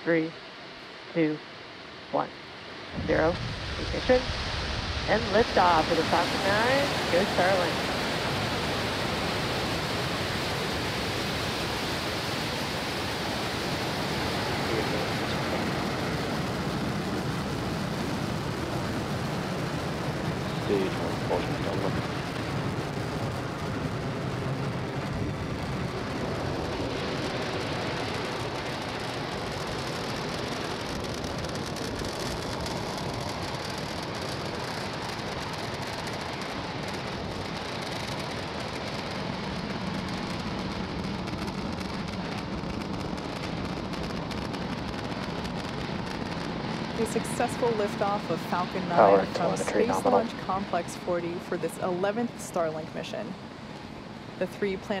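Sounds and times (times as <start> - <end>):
rocket engines roaring: 0.0 - 55.0.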